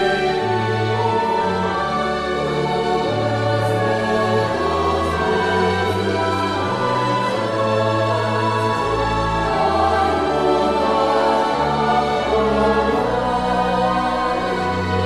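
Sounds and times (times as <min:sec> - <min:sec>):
choir singing a hymn: 0:00.0 - 0:15.0
orchestral accompaniment: 0:00.0 - 0:15.0.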